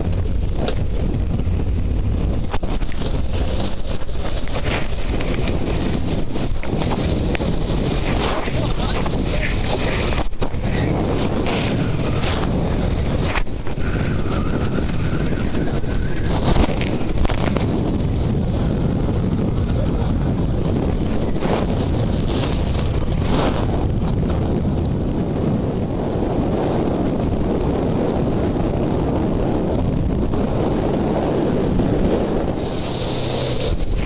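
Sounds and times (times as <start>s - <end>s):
boat rumble: 0.0s - 34.0s
strong wind buffeting microphone: 0.0s - 34.0s.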